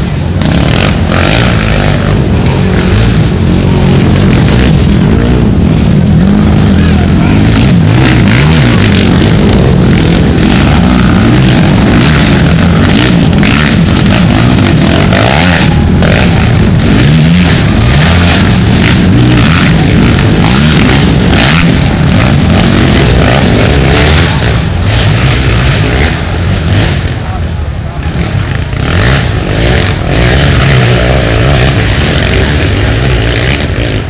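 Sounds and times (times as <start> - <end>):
atv engines revving hard: 0.0 - 34.0.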